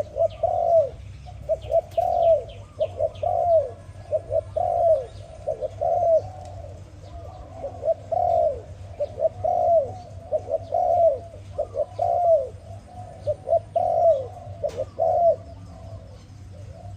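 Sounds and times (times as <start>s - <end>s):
dove cooing: 0.0s - 16.9s.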